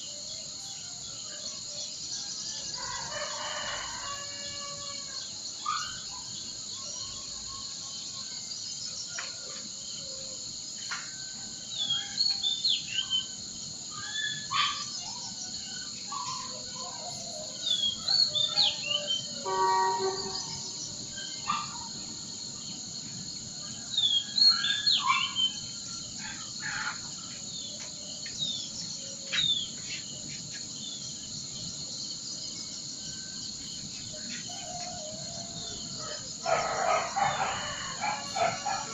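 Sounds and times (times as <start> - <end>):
high-pitched insect chorus: 0.0 - 38.9
songbirds chirping: 0.0 - 38.9.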